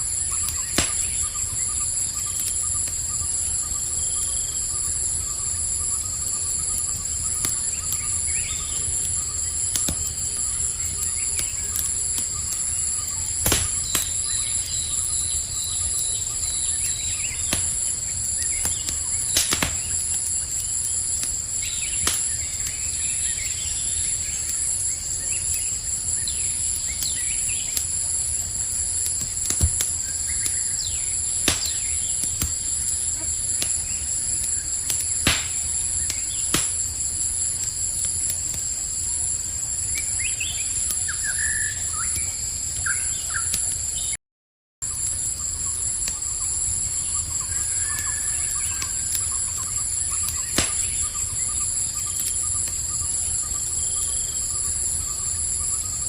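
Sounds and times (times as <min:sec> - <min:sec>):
campfire crackling and popping: 0:00.0 - 0:44.0, 0:44.8 - 0:56.0
cricket trill: 0:00.0 - 0:44.2, 0:44.8 - 0:56.0.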